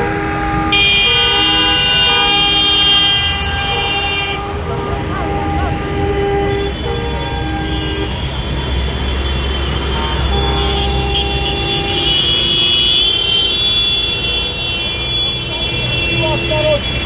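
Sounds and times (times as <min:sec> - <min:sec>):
tractor diesel engines passing: 0:00.0 - 0:17.0
vehicle horn: 0:00.0 - 0:17.0.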